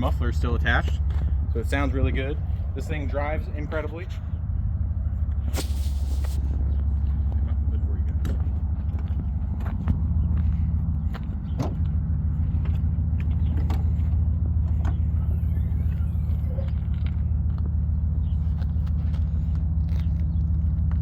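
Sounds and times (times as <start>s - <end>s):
engine exhaust rumble: 0.0s - 21.0s.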